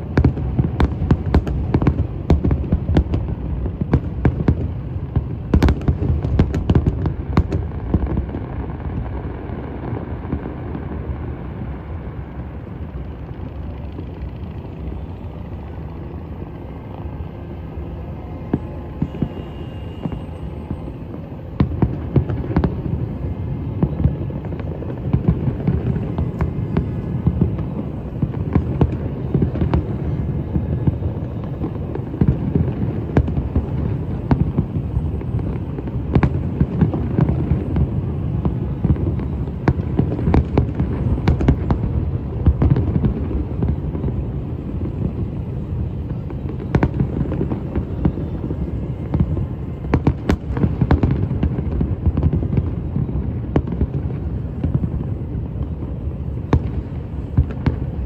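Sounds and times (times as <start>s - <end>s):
fireworks booming and cracking: 0.0s - 58.0s.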